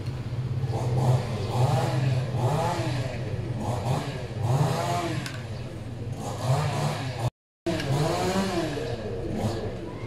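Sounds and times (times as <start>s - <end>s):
vehicle engine revving: 0.5s - 5.4s, 6.1s - 9.8s.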